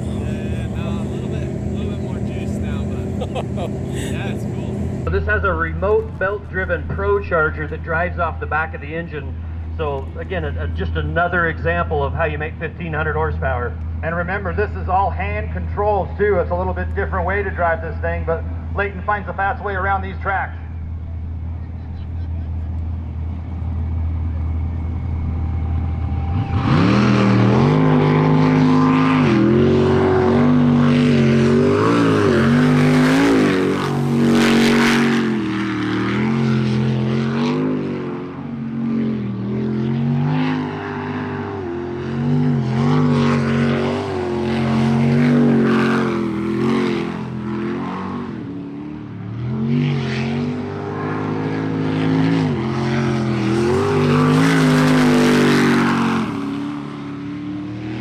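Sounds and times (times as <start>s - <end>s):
boat engine revving: 0.0s - 58.0s.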